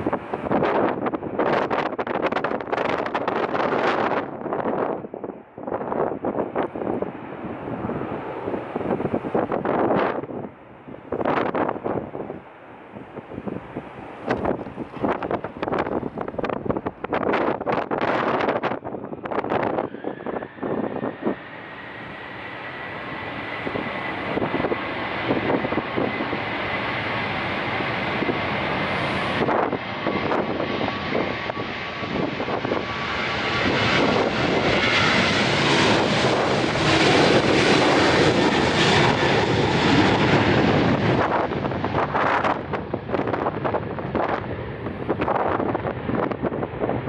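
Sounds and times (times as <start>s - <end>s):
jet airliner passing: 0.0s - 47.0s
wind buffeting microphone: 0.0s - 47.0s.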